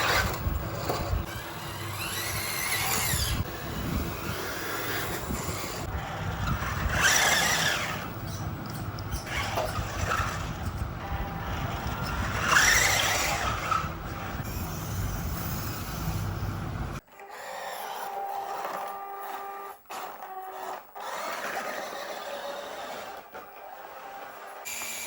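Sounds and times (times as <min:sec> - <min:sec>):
toy vehicle motors whirring: 0:00.0 - 0:25.0.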